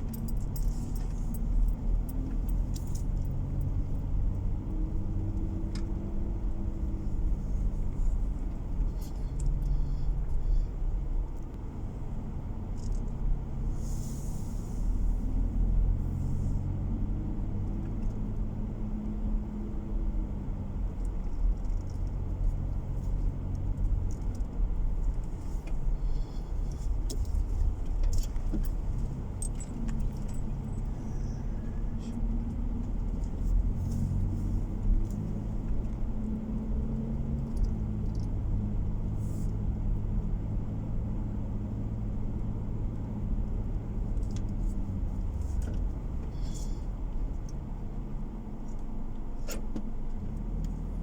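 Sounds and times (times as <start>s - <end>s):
light rattles and clicks: 0.0s - 40.3s, 41.1s - 51.0s
car engine and tyre rumble: 0.0s - 51.0s.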